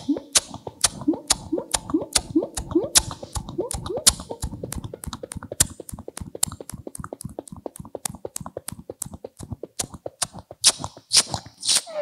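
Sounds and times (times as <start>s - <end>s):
mouth clicks and puffs chugging: 0.0s - 11.9s.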